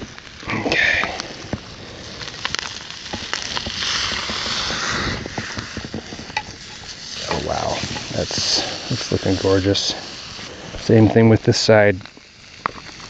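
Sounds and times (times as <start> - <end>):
fish sizzling in butter: 0.0 - 13.0
wood fire crackling and popping: 0.0 - 13.0.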